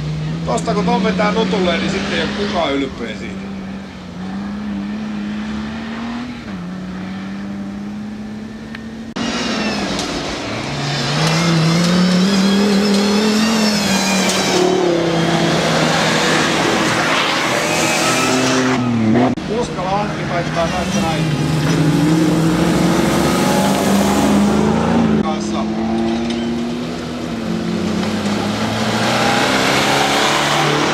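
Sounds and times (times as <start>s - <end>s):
off-road engine revving: 0.0s - 30.9s.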